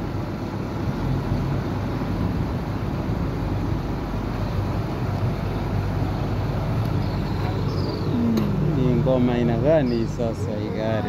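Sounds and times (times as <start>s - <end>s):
excavator diesel engine idling: 0.0s - 11.0s.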